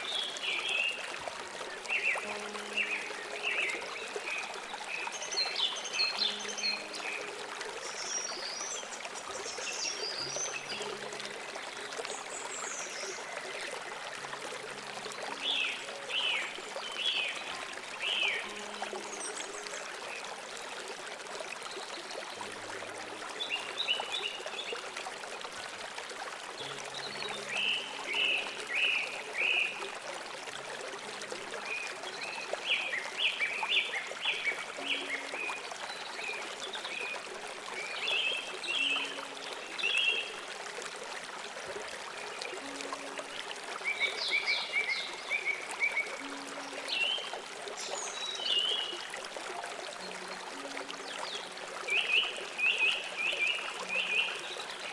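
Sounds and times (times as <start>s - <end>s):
stream running: 0.0s - 54.9s.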